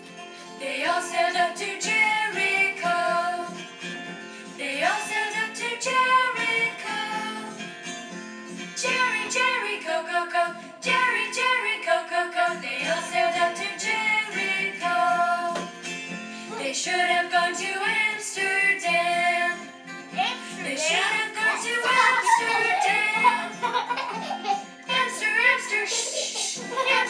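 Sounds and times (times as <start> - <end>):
guitar: 0.0 - 27.0
woman singing: 0.6 - 3.6, 4.6 - 7.6, 8.8 - 15.7, 16.5 - 23.8, 24.9 - 27.0.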